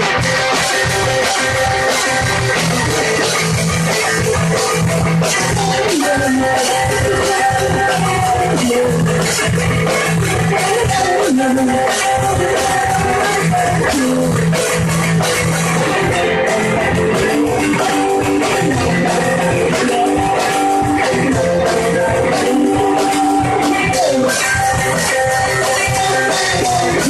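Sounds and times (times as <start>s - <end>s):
guitar rock music: 0.0s - 27.0s.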